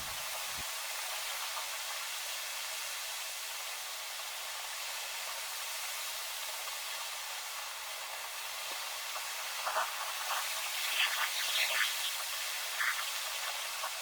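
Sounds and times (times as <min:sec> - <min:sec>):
rain: 0:00.0 - 0:14.0.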